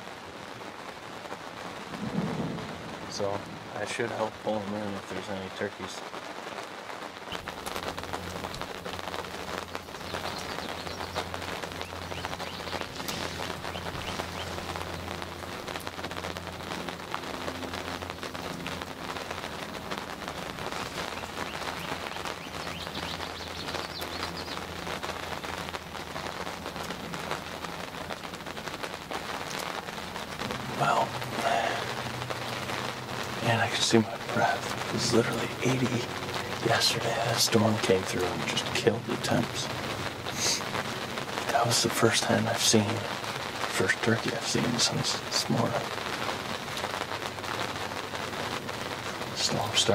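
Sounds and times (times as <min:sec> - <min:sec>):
rain pattering on fabric: 0:00.0 - 0:49.9.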